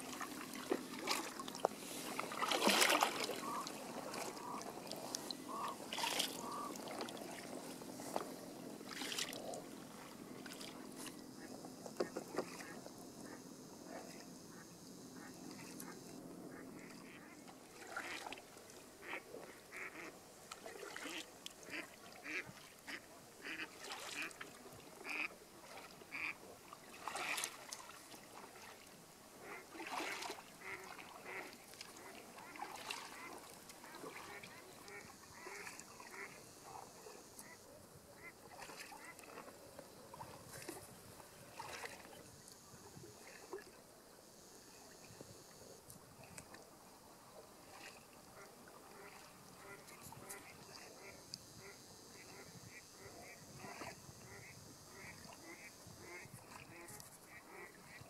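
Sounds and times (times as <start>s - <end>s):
waterfowl calling: 0.0s - 8.2s, 8.9s - 13.4s, 14.0s - 24.4s, 25.0s - 27.6s, 29.4s - 40.7s, 47.7s - 58.0s.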